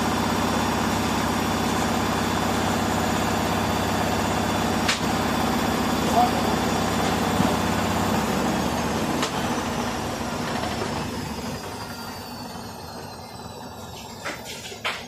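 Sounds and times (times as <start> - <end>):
high whine falling in pitch: 0.0 - 15.0
washing machine drum spinning: 0.0 - 15.0.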